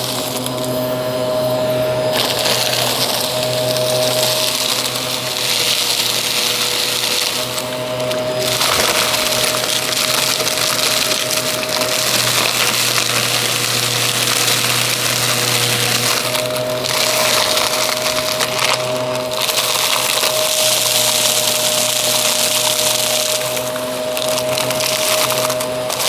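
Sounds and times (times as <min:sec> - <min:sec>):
debris crackling being sucked up: 0:00.0 - 0:26.0
vacuum cleaner motor humming: 0:00.0 - 0:26.0.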